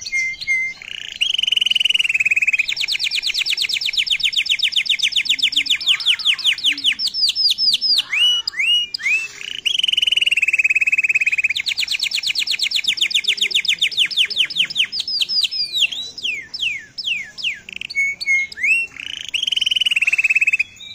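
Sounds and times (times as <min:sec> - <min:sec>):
canary singing: 0:00.0 - 0:20.9.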